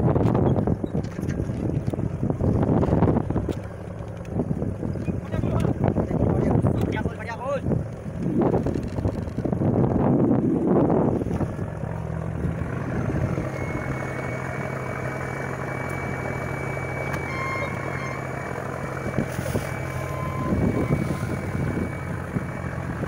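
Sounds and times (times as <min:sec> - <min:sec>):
boat engine droning: 0:00.0 - 0:23.0
water noise: 0:00.0 - 0:23.0
wind: 0:00.0 - 0:23.0.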